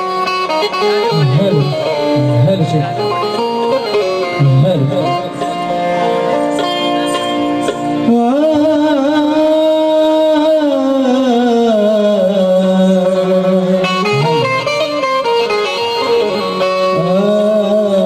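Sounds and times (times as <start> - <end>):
harmonium playing chords: 0.0 - 18.0.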